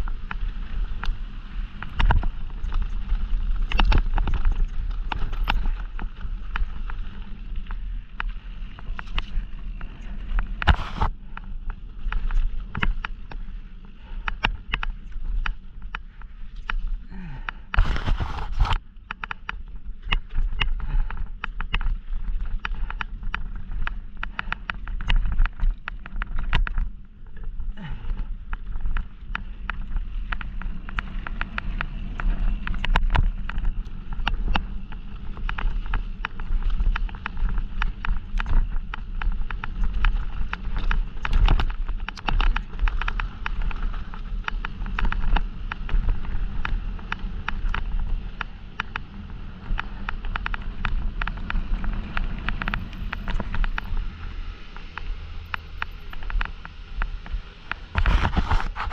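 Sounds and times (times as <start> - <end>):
bike chain and frame rattling: 0.0 - 10.6, 19.1 - 57.9
bike tyres on loose gravel: 0.0 - 58.9
wind rumble on microphone: 0.0 - 58.9.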